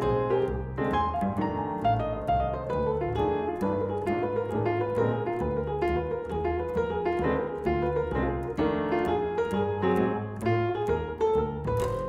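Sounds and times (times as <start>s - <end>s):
mellow upright piano blues: 0.0s - 12.0s.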